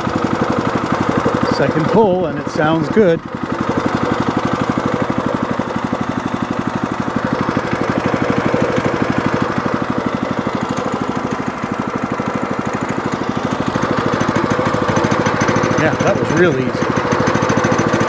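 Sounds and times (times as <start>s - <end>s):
small gasoline engine running: 0.0s - 18.0s.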